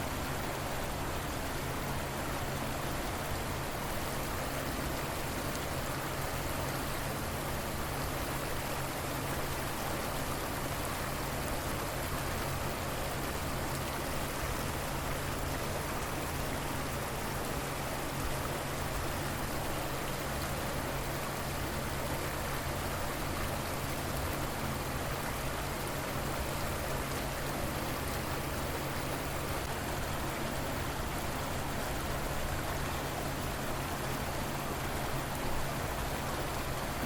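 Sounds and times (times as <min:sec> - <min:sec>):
river water flowing: 0:00.0 - 0:37.0.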